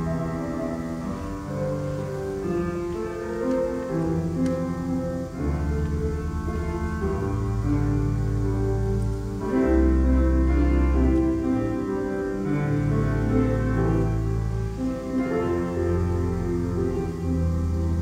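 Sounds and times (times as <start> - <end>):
slow keyboard music: 0.0 - 18.0.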